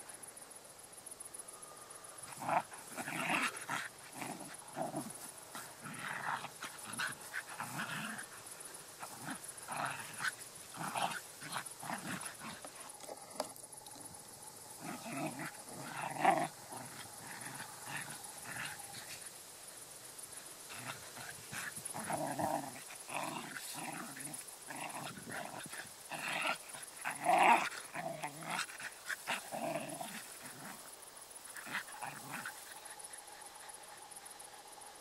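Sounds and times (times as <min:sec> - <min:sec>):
dogs play growling: 0:02.2 - 0:19.4, 0:20.2 - 0:34.7.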